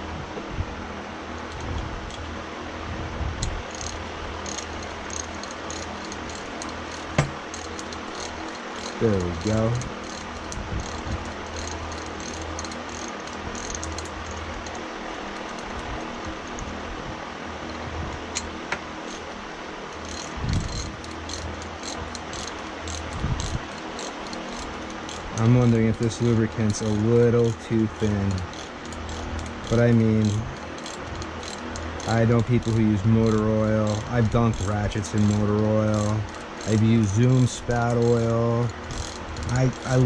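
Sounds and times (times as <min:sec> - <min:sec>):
low room hum: 0:00.0 - 0:40.0
ratchet clicking: 0:01.4 - 0:02.3, 0:03.4 - 0:16.8, 0:17.6 - 0:40.0.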